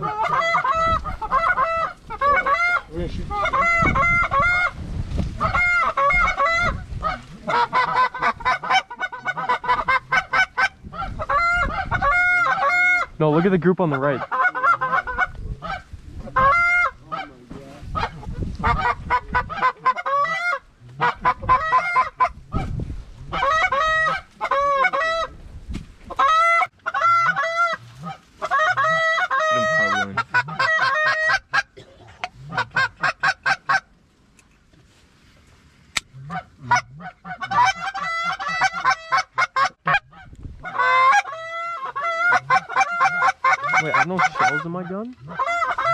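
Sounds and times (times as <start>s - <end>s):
goose honking and clucking: 0.0s - 4.8s, 5.4s - 25.4s, 26.1s - 33.9s, 36.0s - 45.9s.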